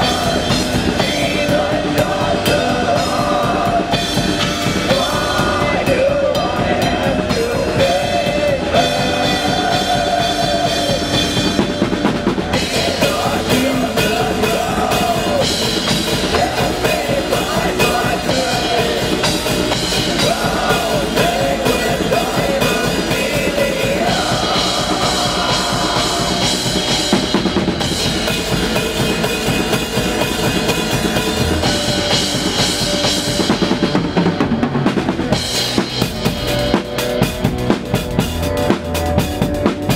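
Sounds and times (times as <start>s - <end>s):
blast-beat drums: 0.0s - 39.9s.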